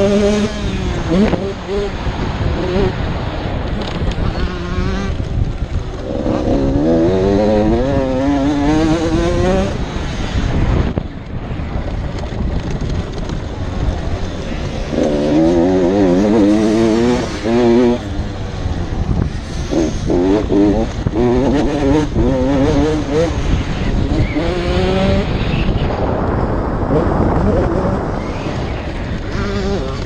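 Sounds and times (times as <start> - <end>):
two-stroke motocross engine revving: 0.0 - 3.0, 3.8 - 10.6, 13.8 - 25.6, 26.8 - 30.0
wind rumble on microphone: 0.0 - 30.0.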